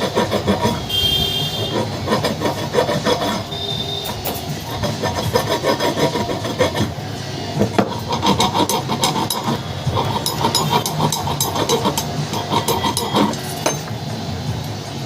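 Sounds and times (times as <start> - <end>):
scraping and rubbing on metal parts: 0.0 - 14.1.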